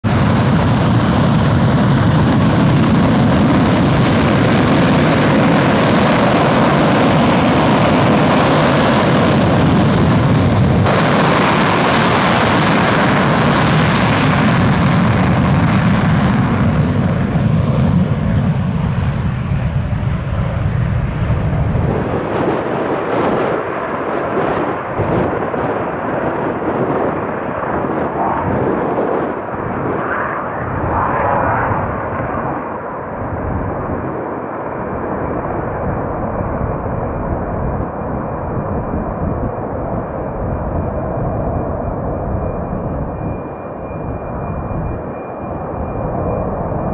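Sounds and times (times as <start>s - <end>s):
jet engine on afterburner: 0.0s - 46.9s.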